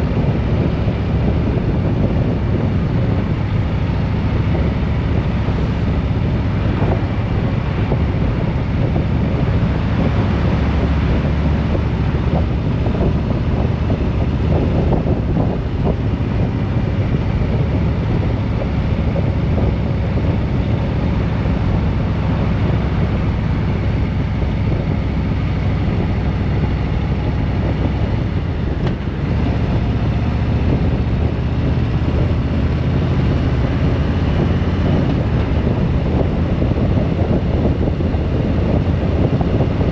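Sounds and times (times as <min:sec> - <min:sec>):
vehicle engine and road noise: 0:00.0 - 0:39.9
wind rush on microphone: 0:00.0 - 0:39.9.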